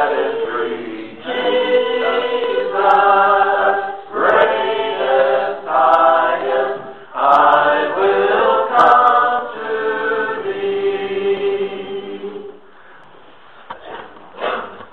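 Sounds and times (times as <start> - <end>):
group singing a worship song: 0.0 - 12.8.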